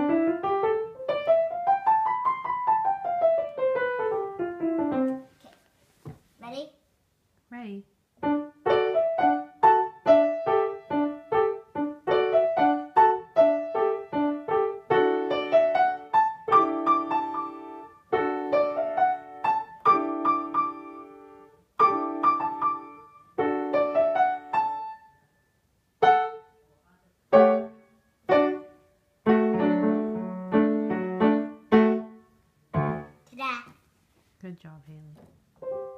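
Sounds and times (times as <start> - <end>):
child playing piano: 0.0 - 5.3, 8.2 - 25.1, 26.0 - 26.6, 27.3 - 33.2, 35.6 - 35.9.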